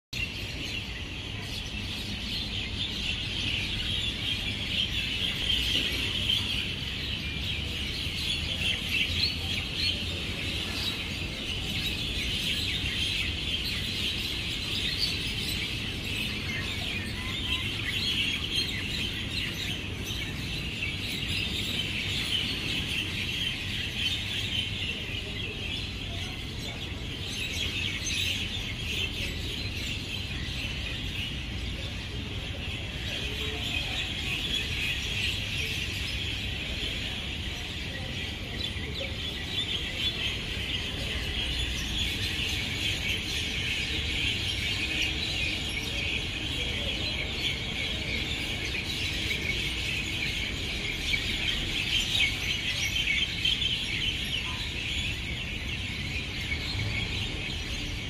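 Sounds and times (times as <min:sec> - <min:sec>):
birds chirping and chattering: 0:00.2 - 0:58.0
low city rumble: 0:00.2 - 0:58.0.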